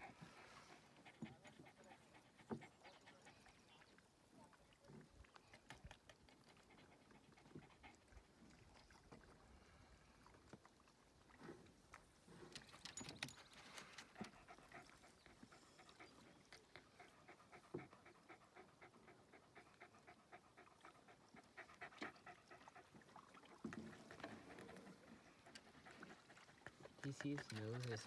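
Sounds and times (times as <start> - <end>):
dog panting: 0.0 - 28.0.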